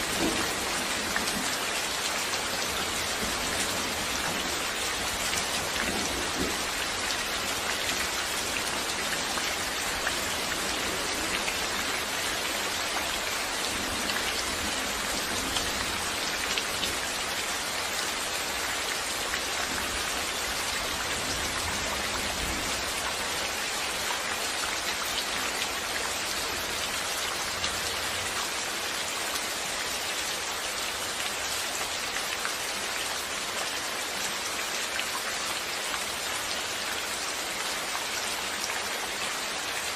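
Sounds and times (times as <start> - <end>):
raindrops pattering: 0.0 - 36.3
steady rain hissing: 0.0 - 39.9.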